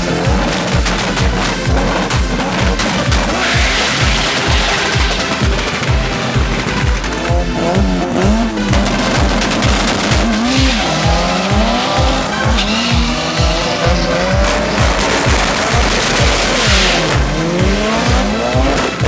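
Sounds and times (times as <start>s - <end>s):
background music with steady beat: 0.0s - 19.0s
drag racing cars accelerating: 0.0s - 19.0s.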